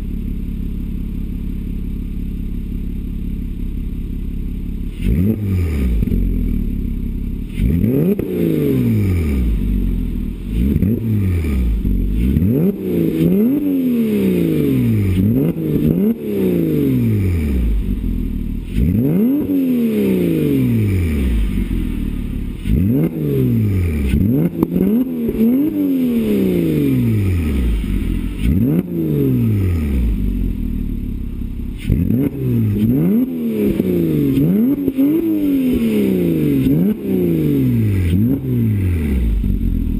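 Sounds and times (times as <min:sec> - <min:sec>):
car engine revving: 0:04.6 - 0:39.9.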